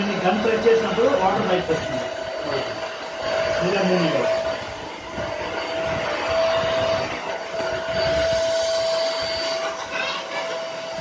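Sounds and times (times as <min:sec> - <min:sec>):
floor cleaner motor humming: 0:00.0 - 0:11.0.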